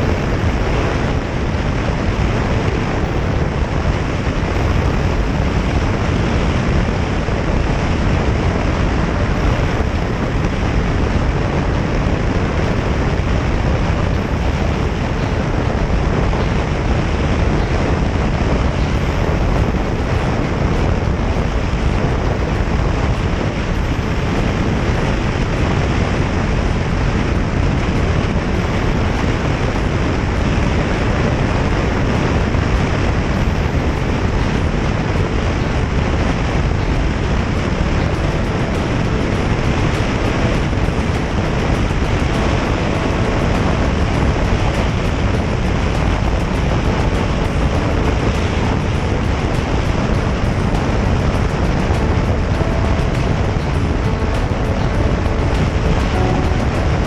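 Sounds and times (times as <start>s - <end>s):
motorcycle road noise: 0.0s - 57.0s
wind rushing on microphone: 0.0s - 57.0s.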